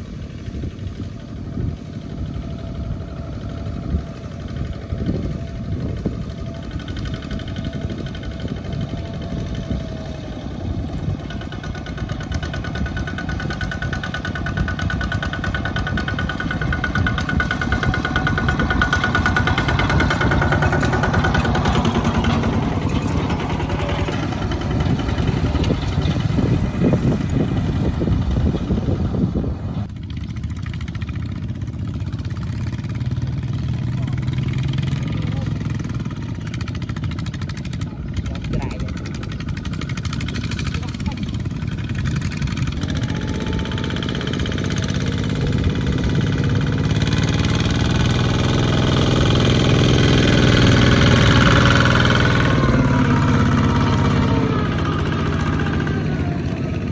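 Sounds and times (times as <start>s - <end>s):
distant tractor engines humming: 0.0s - 56.9s
walking tractor diesel engine running: 0.0s - 56.9s.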